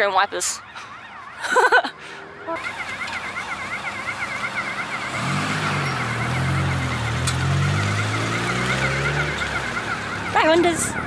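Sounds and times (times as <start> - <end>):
siren warbling: 0.0 - 11.0.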